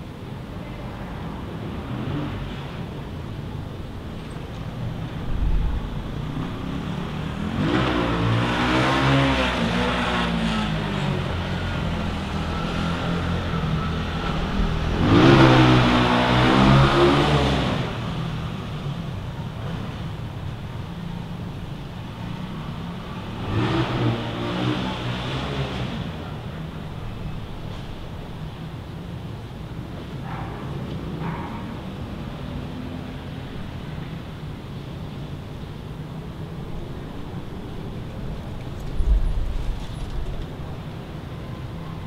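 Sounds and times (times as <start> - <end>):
low traffic hum: 0.0 - 42.0
vehicles driving past: 0.0 - 42.0.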